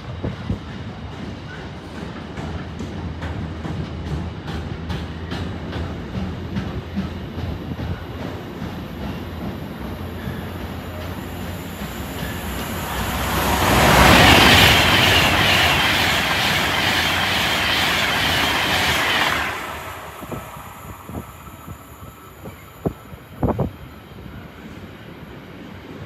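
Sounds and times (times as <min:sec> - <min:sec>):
freight train rumble: 0:00.0 - 0:26.0
high-speed train rushing past: 0:00.0 - 0:26.0.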